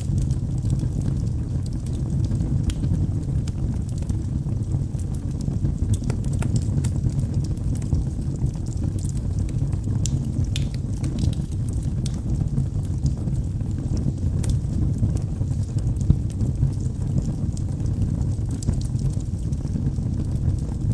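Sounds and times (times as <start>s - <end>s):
fire crackling and popping: 0.0s - 20.9s
fire flame rumble: 0.0s - 20.9s.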